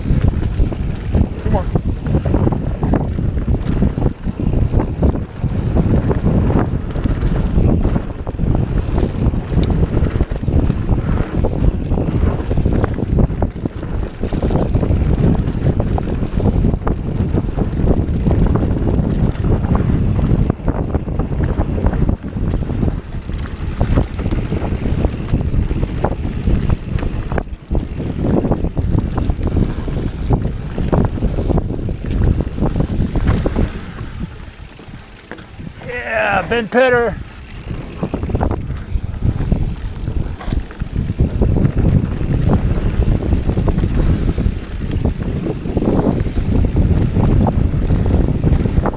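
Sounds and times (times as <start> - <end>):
bike knocks and rattles: 0.0 - 48.9
steady low rumble: 0.0 - 48.9
wind buffeting microphone: 0.0 - 48.9.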